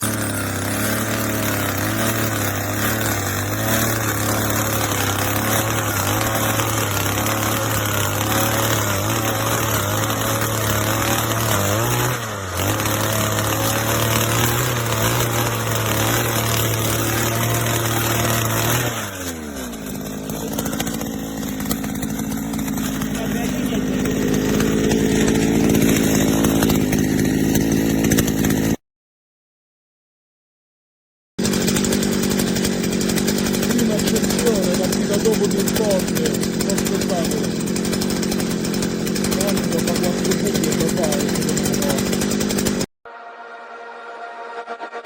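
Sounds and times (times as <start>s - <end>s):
two-stroke engine revving: 0.0s - 28.8s, 31.4s - 42.9s.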